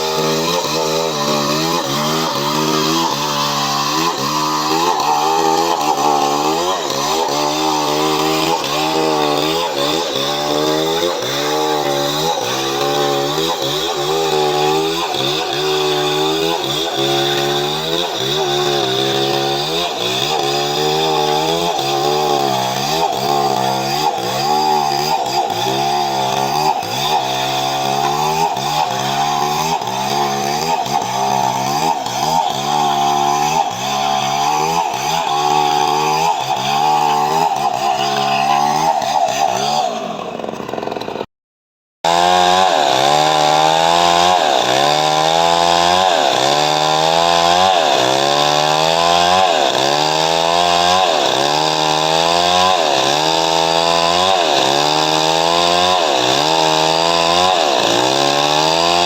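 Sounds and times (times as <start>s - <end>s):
chainsaw cutting wood: 0.0s - 41.3s, 42.0s - 59.0s.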